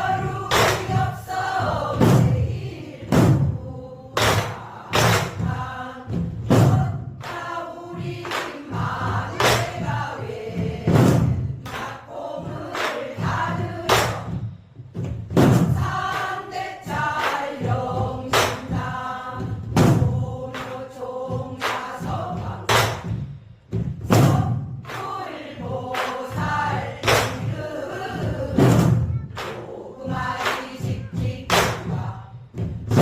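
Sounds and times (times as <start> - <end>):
barrel drum beating: 0.0 - 33.0.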